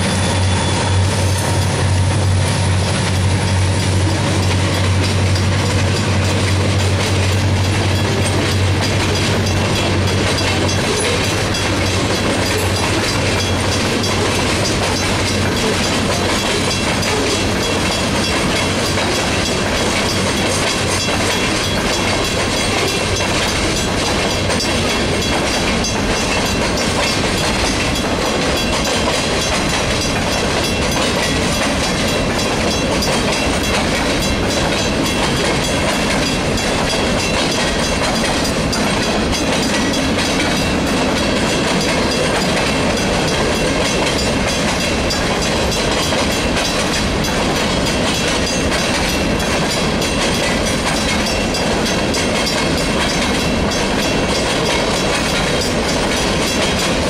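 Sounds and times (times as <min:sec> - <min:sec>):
diesel locomotive drone: 0:00.0 - 0:57.0
train wheels clickety-clack: 0:00.0 - 0:57.0.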